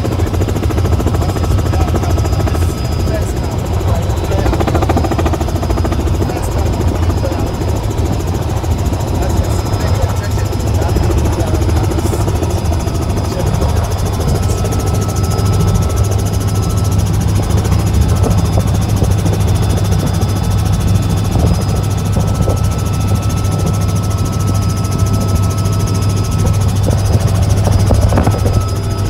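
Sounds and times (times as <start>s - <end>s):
helicopter engine and rotor drone: 0.0s - 29.0s.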